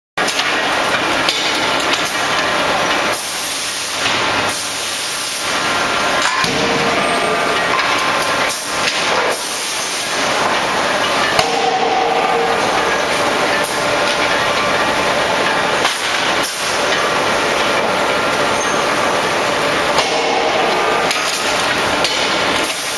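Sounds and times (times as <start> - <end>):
forge machinery hiss and din: 0.2 - 22.9.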